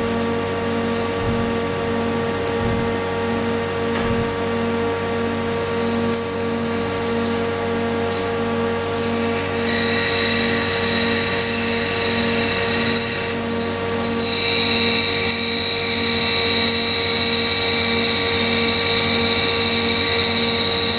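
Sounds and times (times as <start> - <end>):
lathe machine hum: 0.0 - 20.9
high whine: 0.8 - 5.0, 6.1 - 20.9.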